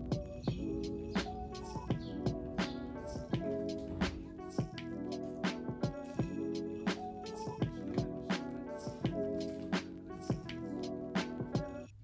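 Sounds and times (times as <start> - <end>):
soft chords over drum beat: 0.0 - 11.8.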